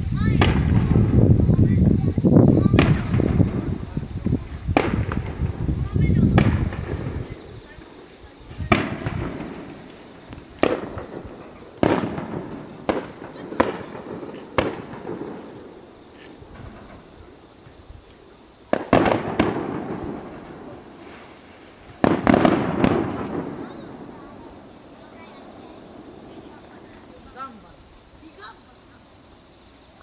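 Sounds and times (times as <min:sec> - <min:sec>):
fireworks bursting with rumbling echo: 0:00.0 - 0:28.4.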